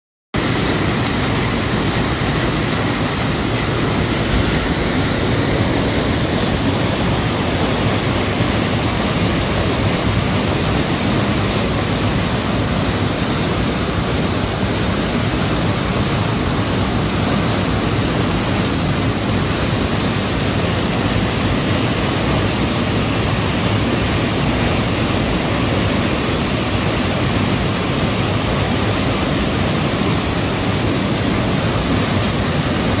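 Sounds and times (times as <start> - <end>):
waterfall rushing: 0.4 - 33.0.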